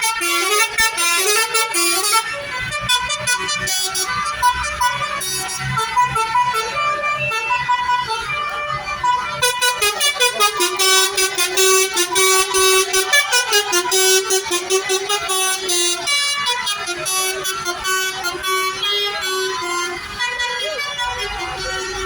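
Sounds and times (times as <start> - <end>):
bus air horns playing tune: 0.0 - 22.0.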